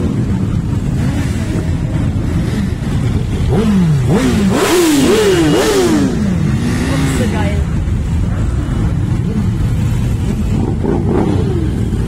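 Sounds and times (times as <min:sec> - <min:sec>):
motorcycle engine revving: 0:00.0 - 0:12.0
motorcycle engines rumbling: 0:00.0 - 0:12.0.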